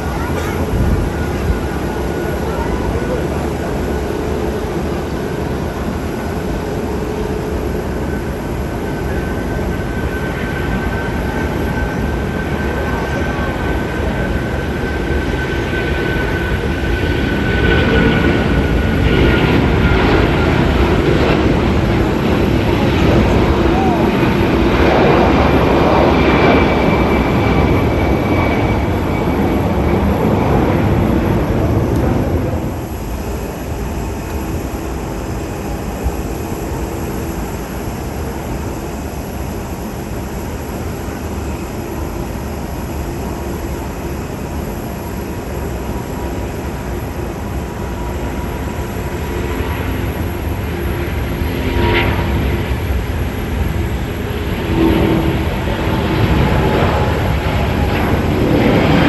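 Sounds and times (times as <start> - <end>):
jet engines humming: 0.0 - 59.0.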